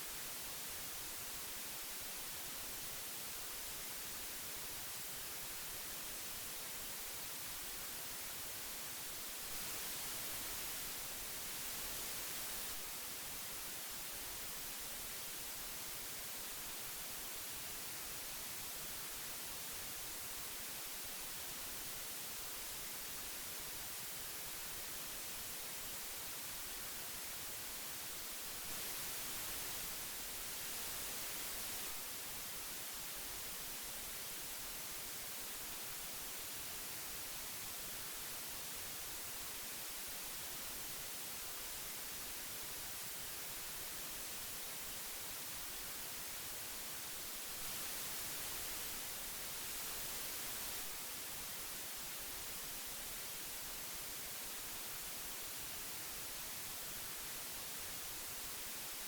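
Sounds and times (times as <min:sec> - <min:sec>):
tape hiss: 0:00.0 - 0:59.0.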